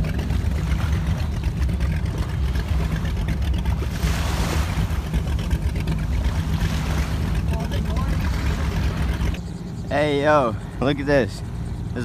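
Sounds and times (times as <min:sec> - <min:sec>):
boat engine running at low speed: 0:00.0 - 0:12.0.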